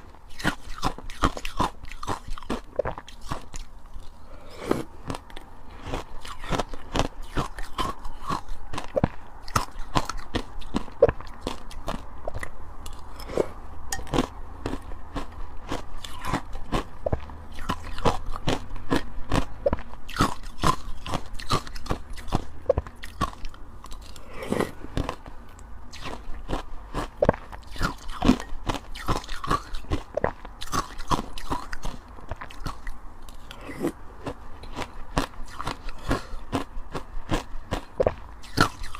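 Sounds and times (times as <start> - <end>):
ice being chewed crunching: 0.0 - 38.9.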